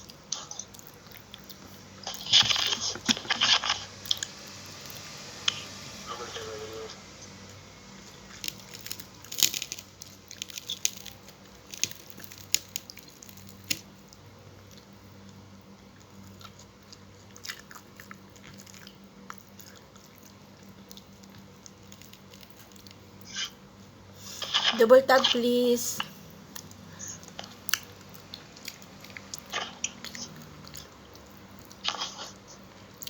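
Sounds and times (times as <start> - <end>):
person chewing crisp food: 0.0 - 5.8, 8.0 - 23.6, 26.5 - 33.0
faint steady hum: 0.0 - 33.0.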